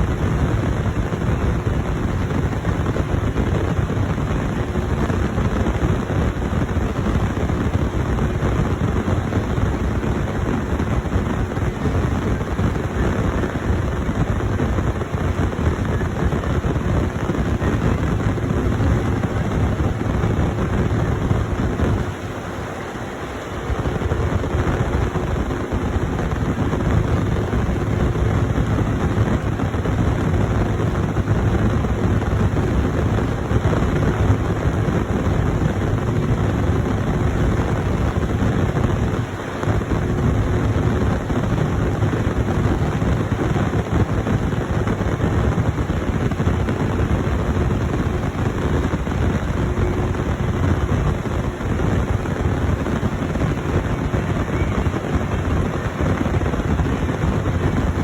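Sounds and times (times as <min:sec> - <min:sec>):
diesel farm machinery rumbling: 0:00.0 - 0:58.0.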